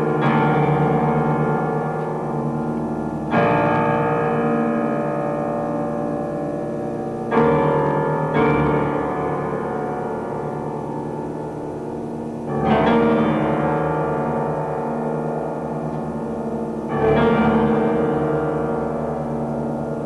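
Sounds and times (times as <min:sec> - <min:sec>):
slow piano-like chords: 0:00.0 - 0:20.0.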